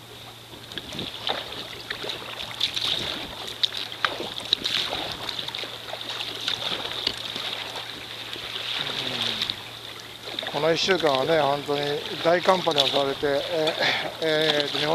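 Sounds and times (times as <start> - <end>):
paddle blades splashing: 0.0 - 14.9
water dripping off paddle: 0.6 - 14.9.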